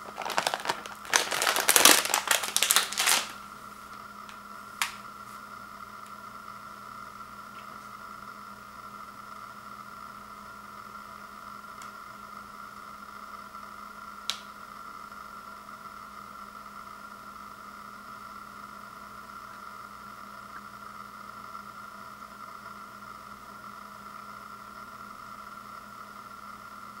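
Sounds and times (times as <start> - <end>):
constant whir: 0.0 - 27.0
room hum and hiss: 0.0 - 27.0.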